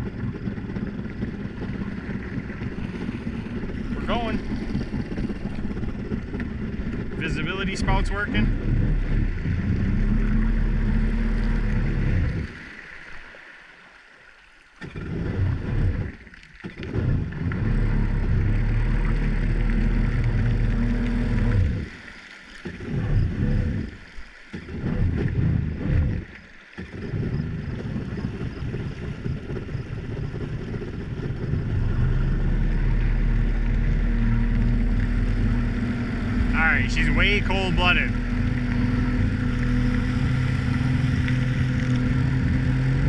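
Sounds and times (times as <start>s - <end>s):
jet ski engine running: 0.0s - 43.0s.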